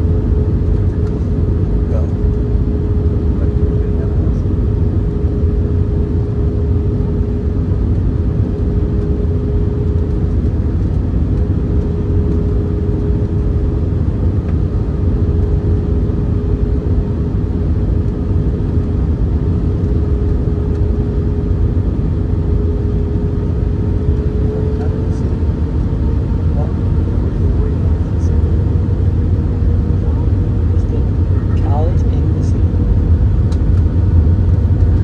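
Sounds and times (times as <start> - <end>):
jet engines droning: 0.0 - 35.0
steady hum: 0.0 - 35.0.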